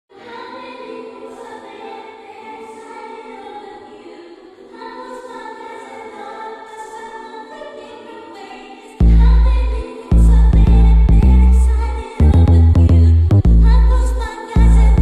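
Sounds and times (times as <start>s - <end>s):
choir-like voices holding chords: 0.1s - 15.0s.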